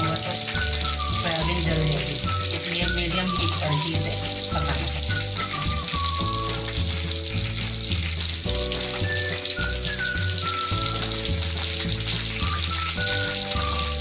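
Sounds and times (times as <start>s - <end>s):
background music with bass: 0.0s - 14.0s
food sizzling in oil: 0.0s - 14.0s.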